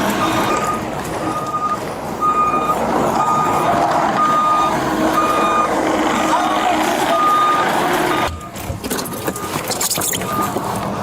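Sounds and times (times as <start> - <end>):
reversing alarm beeping: 0.2 - 3.6, 4.2 - 10.6.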